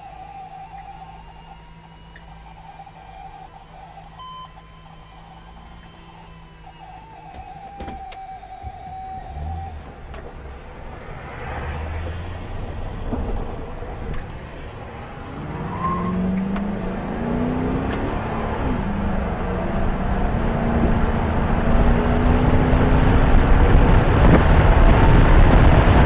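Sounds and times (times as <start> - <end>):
car engine accelerating: 0.0 - 26.0
road and wind noise: 0.0 - 26.0.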